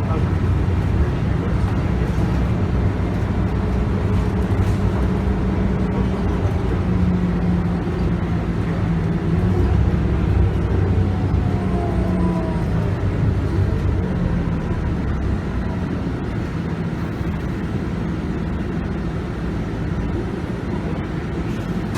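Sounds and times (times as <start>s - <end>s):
bus diesel engine running: 0.0s - 21.9s
road and tyre noise: 0.0s - 21.9s.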